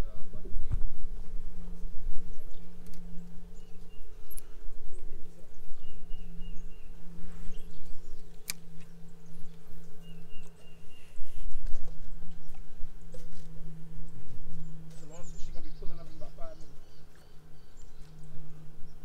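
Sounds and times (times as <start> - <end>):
steady low hum: 0.0 - 19.0
wind on microphone: 0.0 - 19.0.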